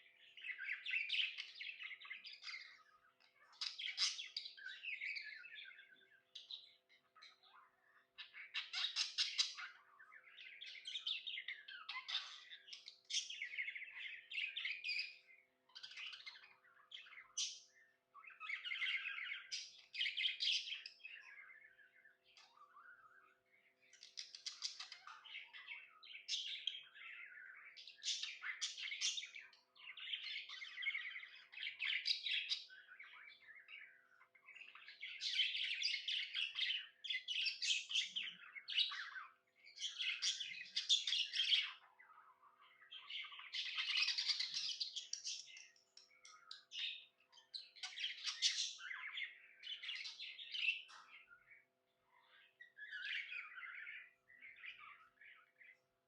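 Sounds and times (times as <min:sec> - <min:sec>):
budgerigars chirping and chattering: 0:00.0 - 0:55.8.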